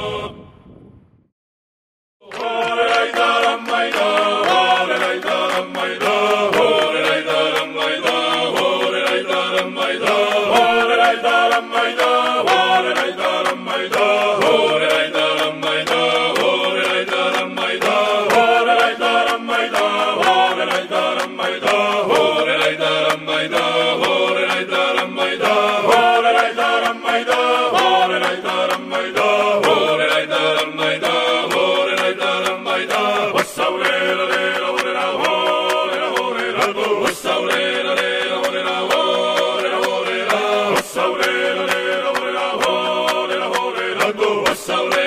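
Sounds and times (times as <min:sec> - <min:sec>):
choir chanting: 0:00.0 - 0:00.5, 0:02.2 - 0:45.0.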